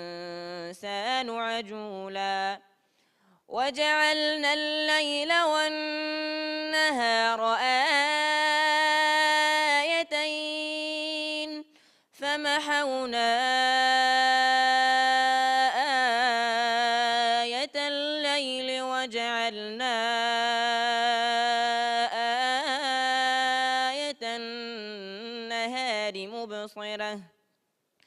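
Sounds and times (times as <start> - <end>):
person chanting recitation: 0.0 - 2.6, 3.5 - 27.3.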